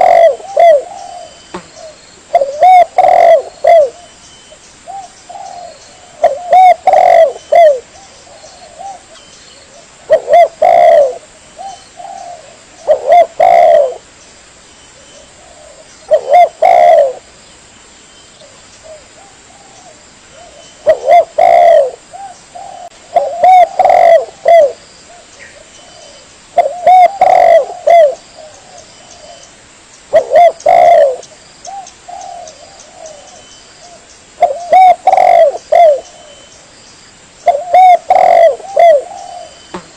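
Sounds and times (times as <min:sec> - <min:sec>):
dove cooing: 0:00.0 - 0:04.2, 0:04.9 - 0:14.1, 0:15.0 - 0:17.3, 0:18.4 - 0:29.5, 0:30.1 - 0:36.5, 0:37.4 - 0:39.9.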